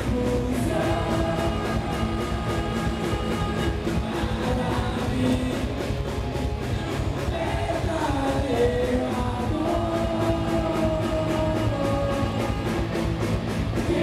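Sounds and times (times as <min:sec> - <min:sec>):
bass guitar: 0:00.0 - 0:14.0
electric guitar: 0:00.0 - 0:14.0
fast drum beat: 0:00.0 - 0:14.0
person singing: 0:00.0 - 0:14.0.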